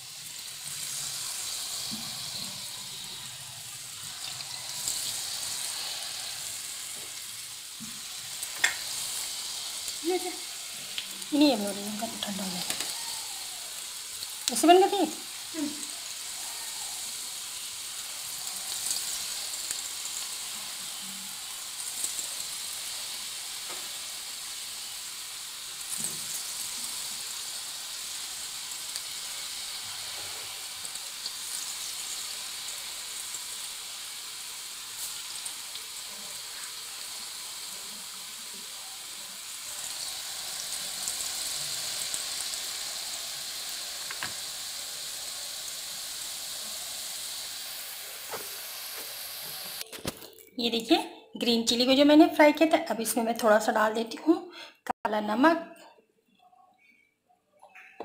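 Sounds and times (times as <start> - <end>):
chillies sizzling in hot oil: 0.0 - 51.0.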